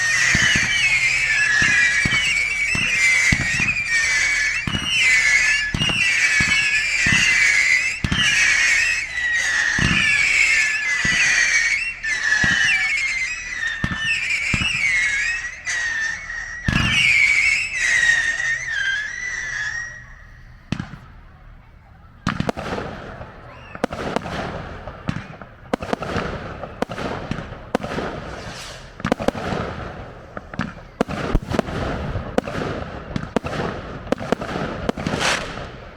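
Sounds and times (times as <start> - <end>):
fireworks bangs: 0.0 - 35.9
fireworks whistling: 0.0 - 35.9.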